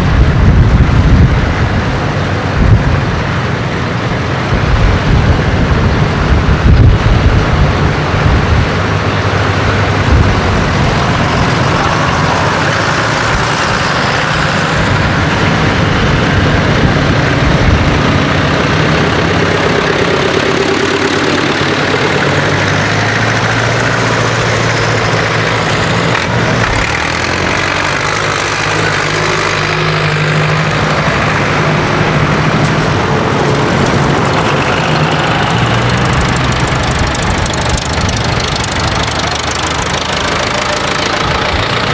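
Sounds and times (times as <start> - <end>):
diesel tractor engines running: 0.0 - 41.9.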